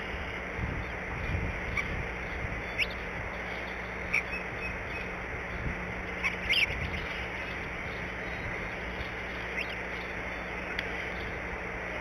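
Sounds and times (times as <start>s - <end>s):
high bird chirps: 0.0s - 11.4s
steady outdoor hiss: 0.0s - 12.0s.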